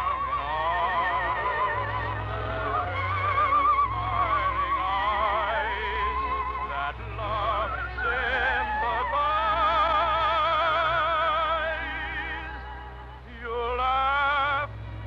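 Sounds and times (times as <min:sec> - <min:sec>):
orchestra playing: 0:00.0 - 0:12.9
operetta singing with vibrato: 0:00.0 - 0:15.0.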